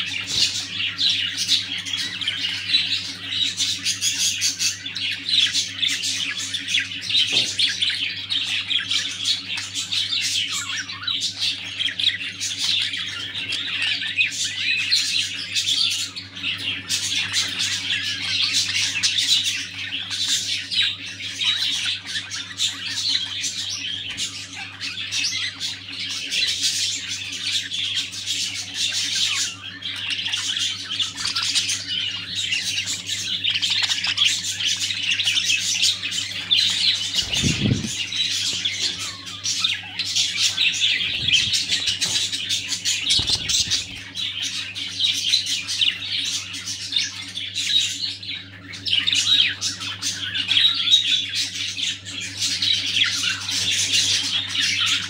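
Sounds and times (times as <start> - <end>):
budgerigars chattering and warbling: 0.0 - 55.0.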